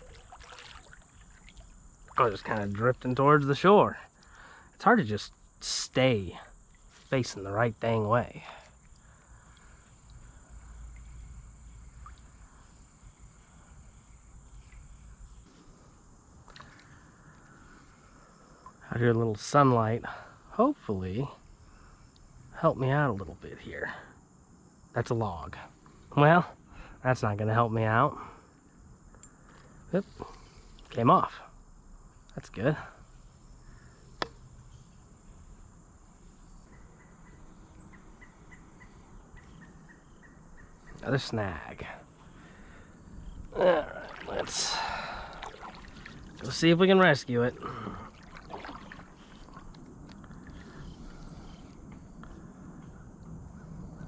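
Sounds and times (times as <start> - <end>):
crickets singing: 0.0 - 54.0.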